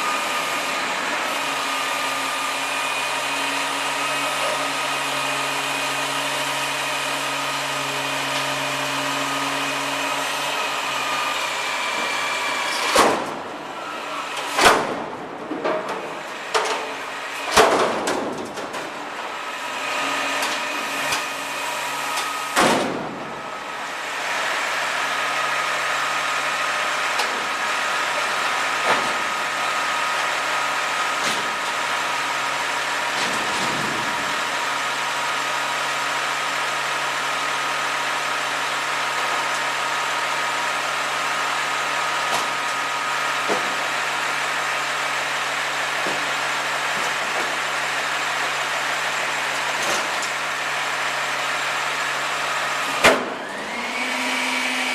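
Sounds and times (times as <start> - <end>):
garbage truck engine whining: 0.0 - 54.9.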